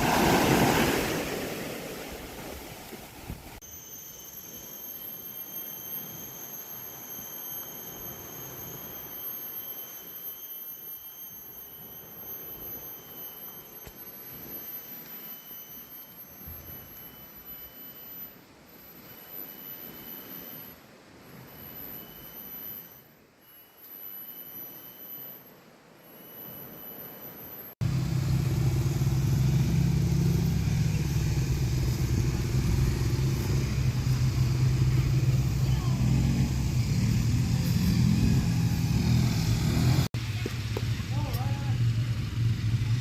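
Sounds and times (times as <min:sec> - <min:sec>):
cicadas whining: 0:03.6 - 0:40.1.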